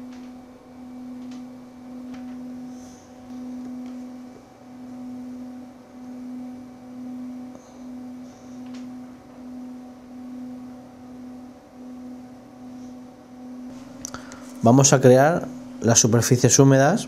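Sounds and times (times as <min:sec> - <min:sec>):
low droning music: 0:00.0 - 0:17.0.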